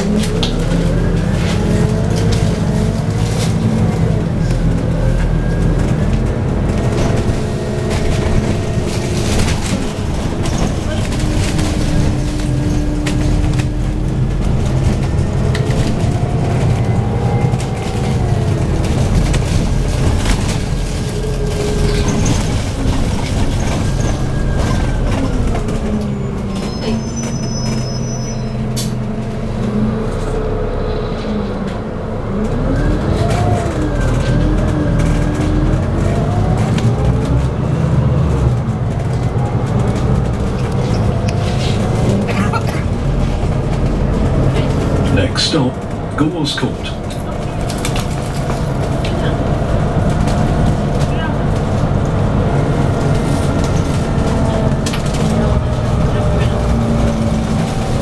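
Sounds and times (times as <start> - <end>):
bus engine accelerating and shifting: 0.0 - 58.0.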